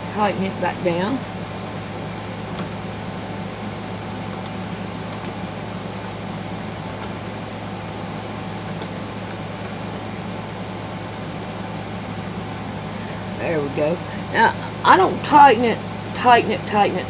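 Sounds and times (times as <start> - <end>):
fan humming and hissing: 0.0 - 17.0.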